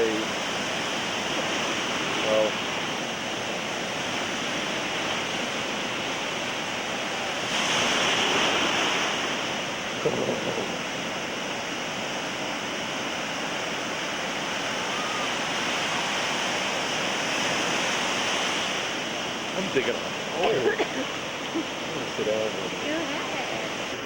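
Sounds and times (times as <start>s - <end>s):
ocean surf washing: 0.0s - 24.0s
wave breaking: 0.0s - 24.0s.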